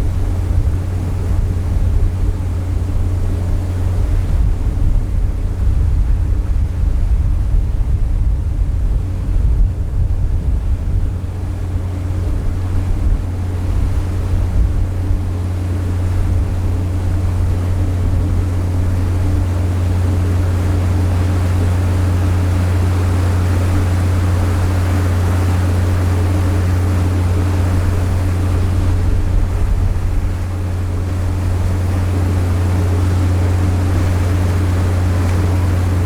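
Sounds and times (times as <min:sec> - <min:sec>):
rushing water: 0:00.0 - 0:36.0
ship engine drone: 0:00.0 - 0:36.0
wind: 0:00.0 - 0:36.0.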